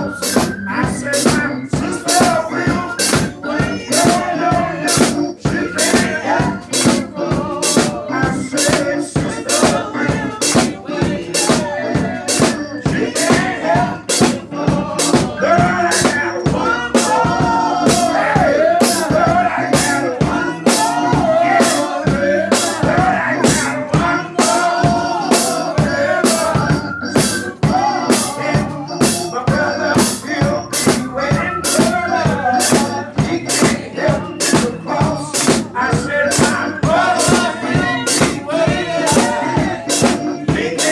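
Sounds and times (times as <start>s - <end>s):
man singing into a microphone: 0.0s - 40.9s
steady beat: 0.0s - 40.9s.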